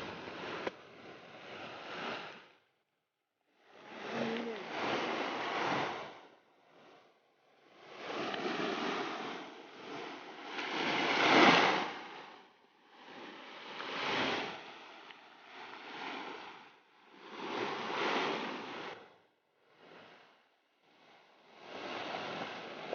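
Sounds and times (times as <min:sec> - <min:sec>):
sea waves washing in: 0:00.0 - 0:02.7, 0:03.5 - 0:22.9.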